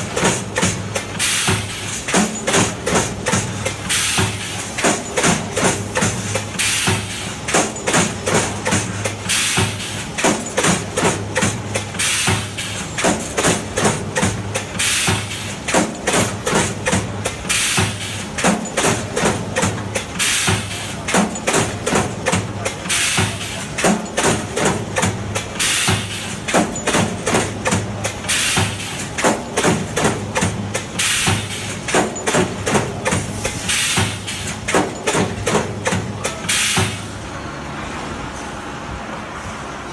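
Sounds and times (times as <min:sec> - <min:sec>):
welding heads clacking: 0:00.0 - 0:37.1.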